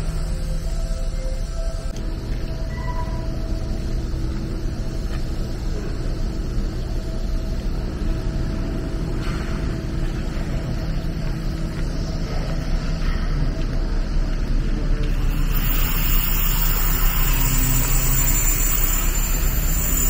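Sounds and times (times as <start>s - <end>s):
faint constant hum: 0.0s - 20.0s
low machinery rumble: 0.0s - 20.0s.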